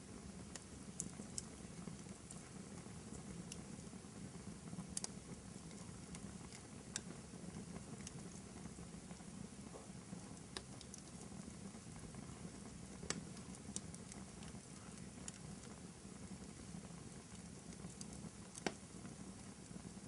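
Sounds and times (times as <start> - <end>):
fire crackling: 0.0 - 20.0
sharp pops of fire: 0.1 - 20.0.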